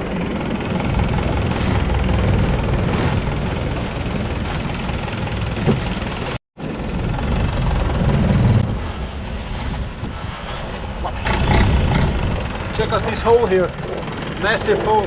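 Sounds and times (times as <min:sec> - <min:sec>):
boat engine running: 0:00.0 - 0:15.0
rushing noise: 0:00.0 - 0:15.0.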